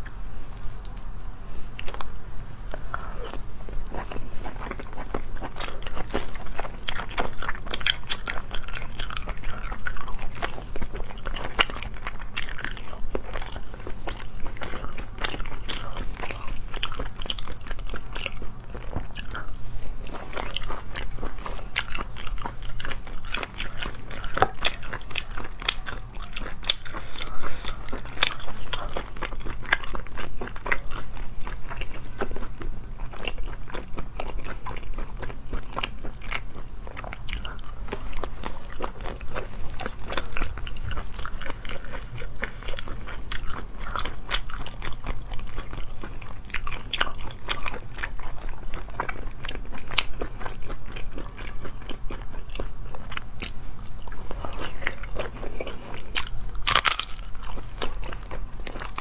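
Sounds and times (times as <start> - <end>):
chewing and biting food: 0.8 - 59.0.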